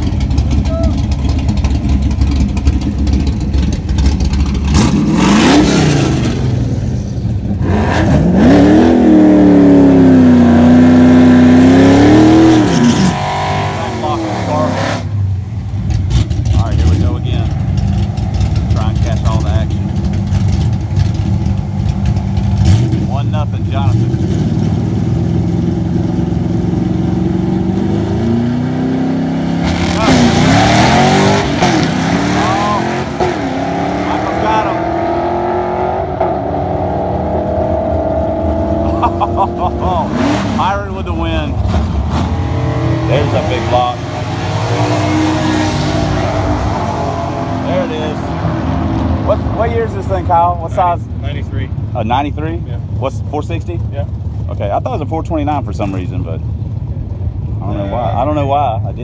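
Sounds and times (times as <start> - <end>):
drag car engine idling and revving: 0.0 - 59.0.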